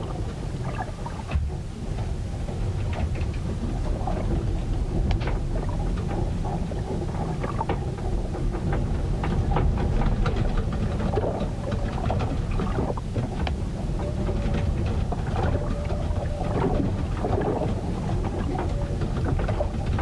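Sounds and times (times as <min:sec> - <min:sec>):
low rumble of wind and water: 0:00.0 - 0:20.0
small ticks and knocks: 0:00.6 - 0:20.0.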